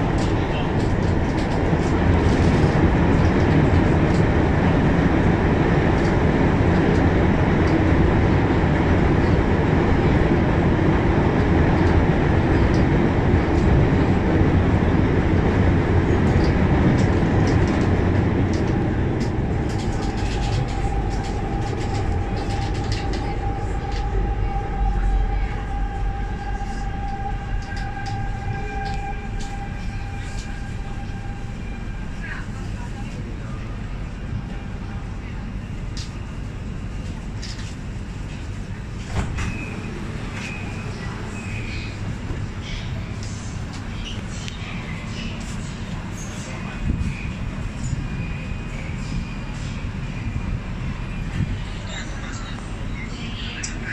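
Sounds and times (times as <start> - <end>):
multi-tone train whine: 0.0 - 53.9
train rumbling through tunnel: 0.0 - 53.9.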